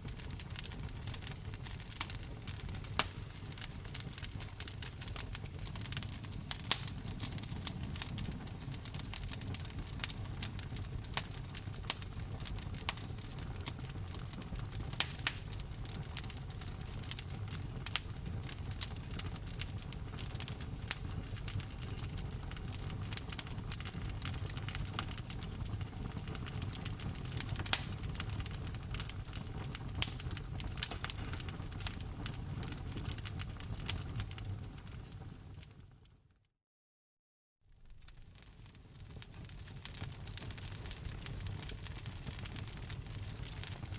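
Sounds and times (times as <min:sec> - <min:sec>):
low rumble of fire: 0:00.0 - 0:36.2, 0:37.7 - 0:43.9
wood fire crackling and snapping: 0:00.0 - 0:36.2, 0:37.7 - 0:43.9.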